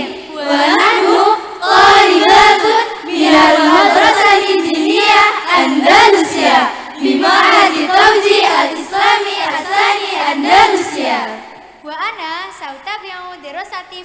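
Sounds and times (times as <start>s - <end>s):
young voices singing in unison: 0.0s - 11.8s.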